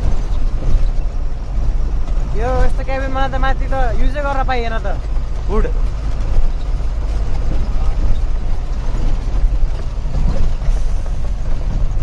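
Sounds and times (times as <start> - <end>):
truck engine drone: 0.0 - 12.0.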